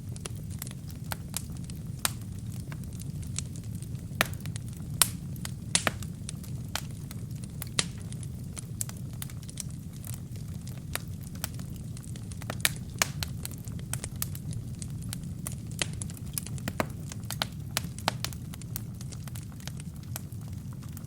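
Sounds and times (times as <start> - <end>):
low rush of flame: 0.0 - 21.0
wood fire crackling and popping: 0.0 - 21.0.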